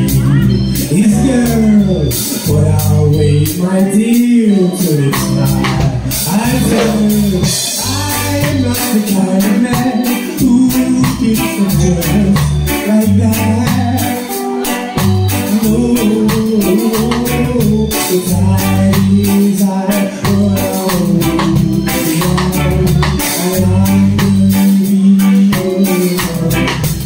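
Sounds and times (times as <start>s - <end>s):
drum kit steady beat: 0.0s - 27.0s
electric bass line: 0.0s - 27.0s
person singing: 0.0s - 27.0s
stage keyboard: 0.0s - 27.0s.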